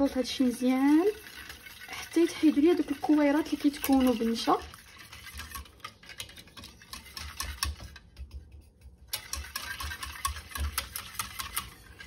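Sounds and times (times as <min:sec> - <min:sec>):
whisk ticking against pan: 0:00.0 - 0:12.0.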